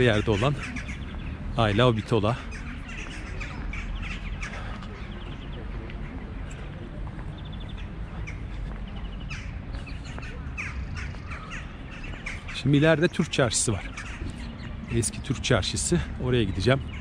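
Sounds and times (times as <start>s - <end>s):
birds calling in high notes: 0.0s - 6.2s, 7.4s - 17.0s.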